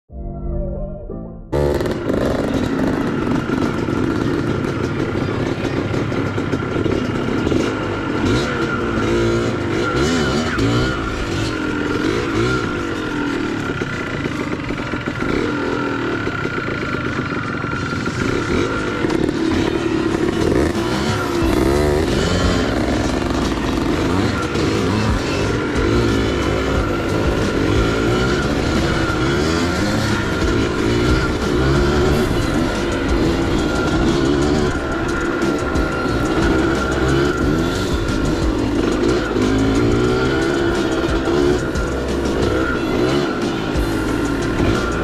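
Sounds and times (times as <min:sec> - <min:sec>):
dirt bike engines revving: 0:01.6 - 0:45.0.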